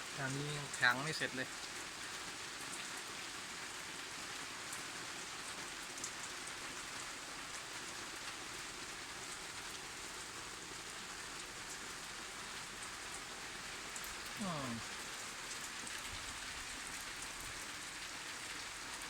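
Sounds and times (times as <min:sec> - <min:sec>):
light rain hissing: 0:00.0 - 0:19.0.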